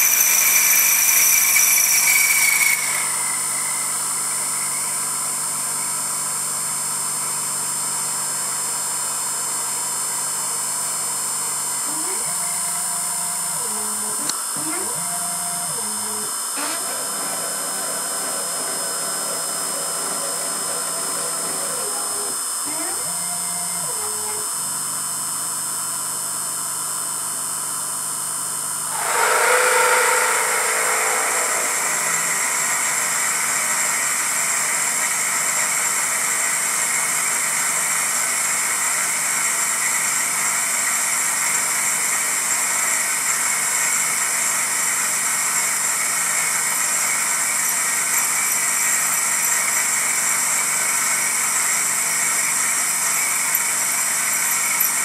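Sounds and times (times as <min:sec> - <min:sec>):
drill cutting through metal: 0:00.0 - 0:06.4, 0:11.8 - 0:24.5, 0:28.9 - 0:55.0
milling machine spindle whine: 0:00.0 - 0:08.6, 0:10.0 - 0:24.7, 0:28.9 - 0:55.0.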